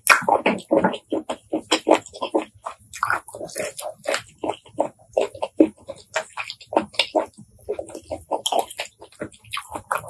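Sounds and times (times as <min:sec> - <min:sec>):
wet chewing smacks: 0:00.0 - 0:10.0.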